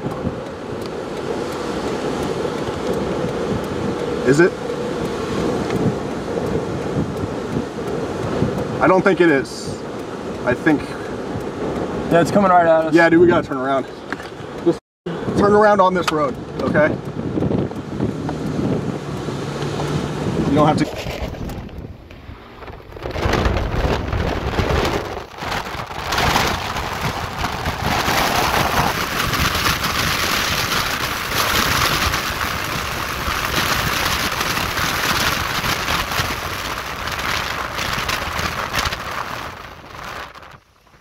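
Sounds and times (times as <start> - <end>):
wind and road noise rushing: 0.0 - 41.0.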